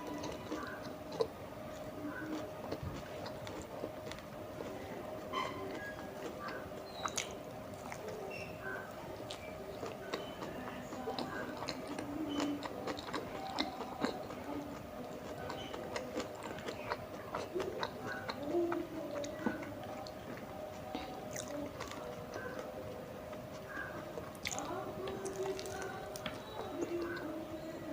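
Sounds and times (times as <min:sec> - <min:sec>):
close chewing mouth clicks: 0:00.0 - 0:04.9, 0:05.6 - 0:27.3.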